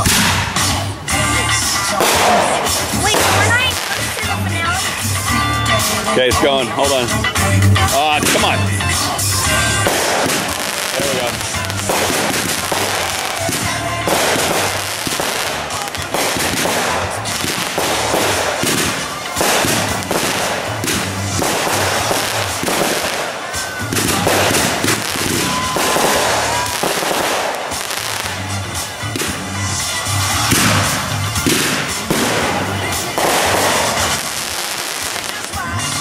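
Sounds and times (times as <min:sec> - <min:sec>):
fireworks banging and crackling: 0:00.0 - 0:36.0
music with a steady beat: 0:00.0 - 0:36.0.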